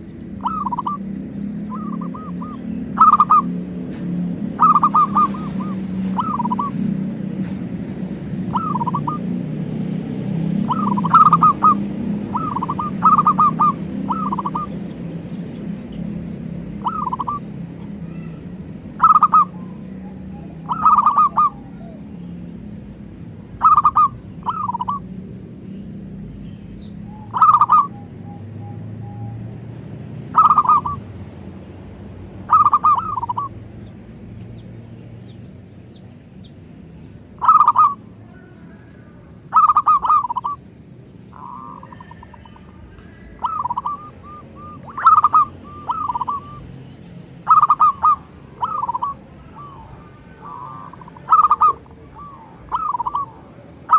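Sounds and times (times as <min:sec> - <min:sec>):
dove cooing: 0:00.0 - 0:25.4, 0:27.0 - 0:31.5, 0:32.3 - 0:33.9, 0:37.4 - 0:40.6, 0:41.3 - 0:53.9.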